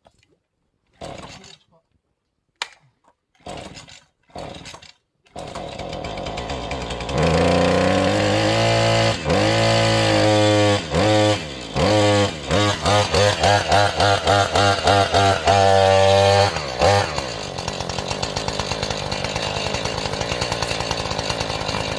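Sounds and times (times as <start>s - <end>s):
chainsaw revving: 0.9s - 1.6s, 3.4s - 21.9s.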